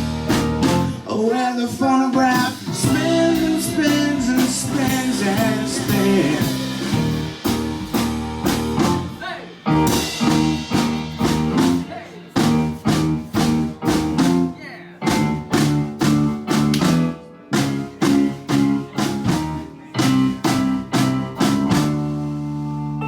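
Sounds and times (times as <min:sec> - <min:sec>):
live band playing guitar chords: 0:00.0 - 0:23.0.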